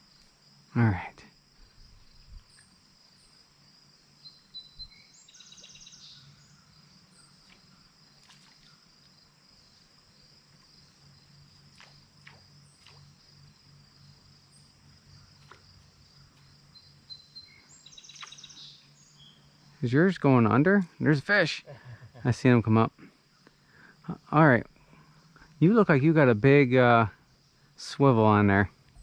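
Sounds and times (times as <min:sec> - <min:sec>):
buzzy insect trill: 0:00.0 - 0:28.8
insects chorus: 0:00.0 - 0:29.0.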